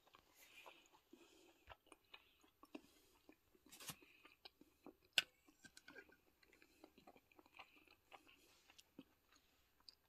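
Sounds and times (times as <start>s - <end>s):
person chewing and eating soup: 0.0s - 10.0s.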